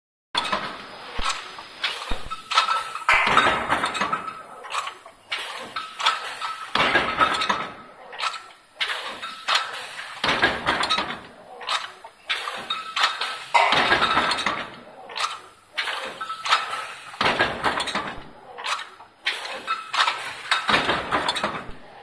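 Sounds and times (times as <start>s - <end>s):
power press clanking metal: 0.4s - 22.0s.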